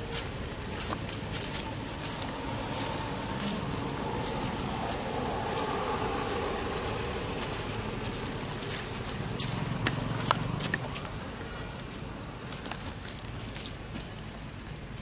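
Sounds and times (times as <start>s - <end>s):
motor vehicle engine hum: 0.0s - 13.0s.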